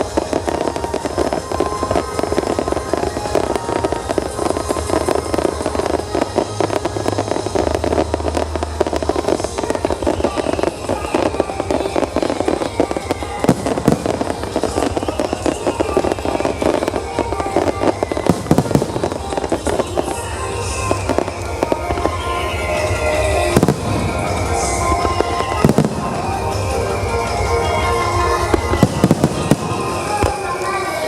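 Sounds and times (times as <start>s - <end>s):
fireworks crackling and popping: 0.0s - 31.0s
heavy firework bursts: 0.0s - 31.0s
music over loudspeakers: 0.0s - 31.0s.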